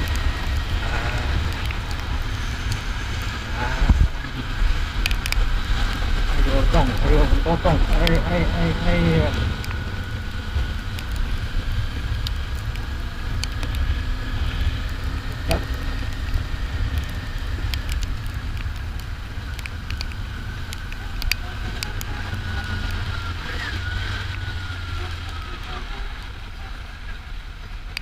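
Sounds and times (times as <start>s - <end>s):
motorcycle engine cruising: 0.0s - 28.0s
wind rumble on microphone: 0.0s - 28.0s.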